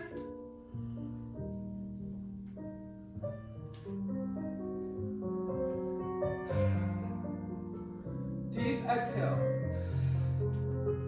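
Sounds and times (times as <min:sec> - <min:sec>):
slow jazz piano music: 0:00.0 - 0:11.0.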